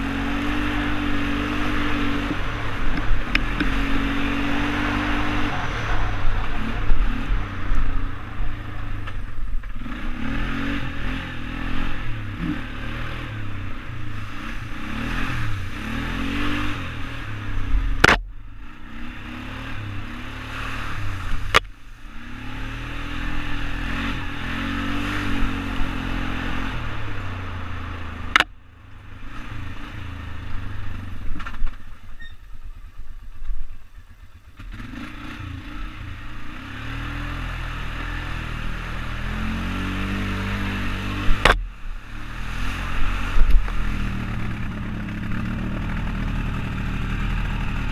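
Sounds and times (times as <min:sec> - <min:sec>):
atv engine revving: 0:00.0 - 0:31.8, 0:34.1 - 0:47.9.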